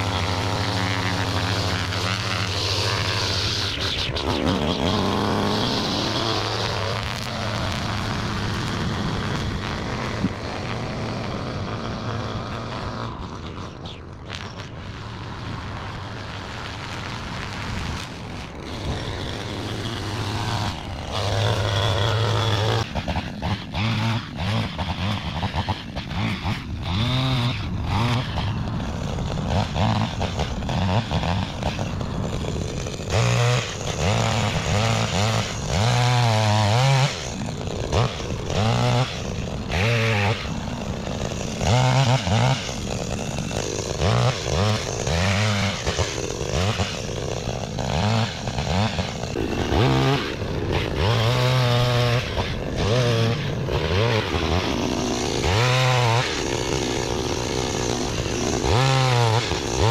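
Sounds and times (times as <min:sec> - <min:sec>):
string trimmer engine revving: 0:00.0 - 0:59.9.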